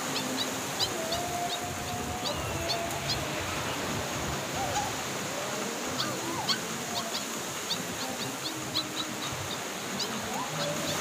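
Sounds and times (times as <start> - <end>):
birds chirping: 0.0 - 11.0
low wavering bird calls: 0.0 - 11.0.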